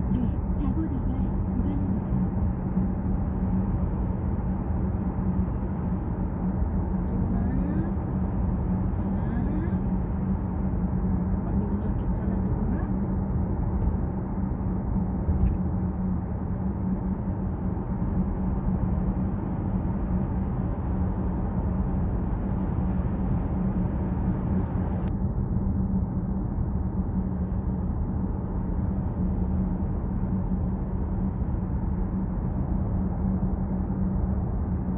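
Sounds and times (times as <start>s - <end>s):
car cabin road and engine drone: 0.0s - 34.9s.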